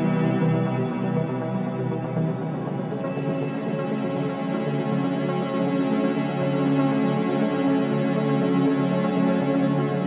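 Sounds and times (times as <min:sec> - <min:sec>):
slow ambient music tones: 0:00.0 - 0:10.0.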